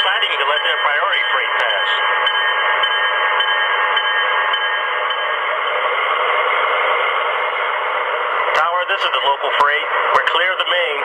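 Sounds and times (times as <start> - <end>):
hissy diesel engine sound from speakers: 0.0 - 11.0.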